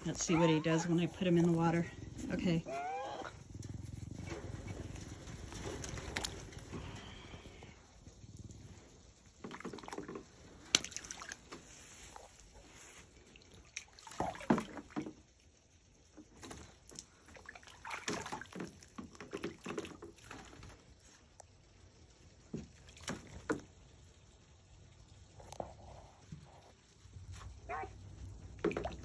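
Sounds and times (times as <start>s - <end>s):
water sloshing in a pool: 0.0s - 24.1s, 27.5s - 29.0s.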